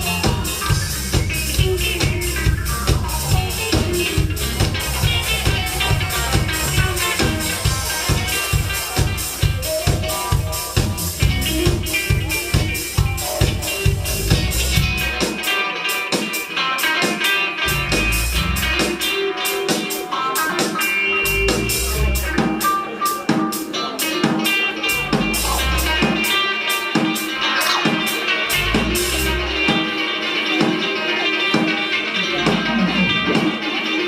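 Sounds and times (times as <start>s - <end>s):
bass guitar: 0.0s - 34.0s
drum kit beat: 0.0s - 34.0s
electric guitar: 0.0s - 34.0s.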